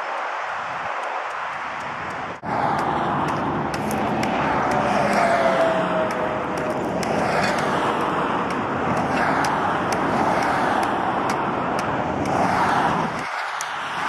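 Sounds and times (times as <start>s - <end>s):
freeway traffic rushing: 0.0s - 14.0s.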